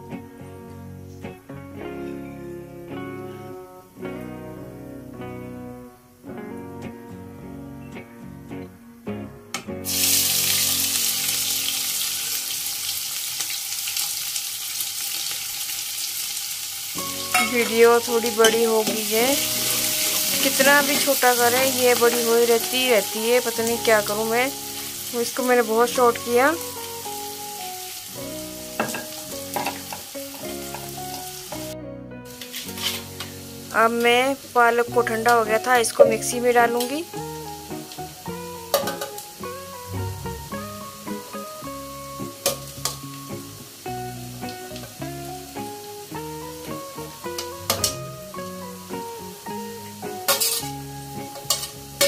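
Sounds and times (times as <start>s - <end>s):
soft background music: 0.0s - 13.0s, 16.9s - 52.0s
onions sizzling in hot oil: 9.8s - 52.0s.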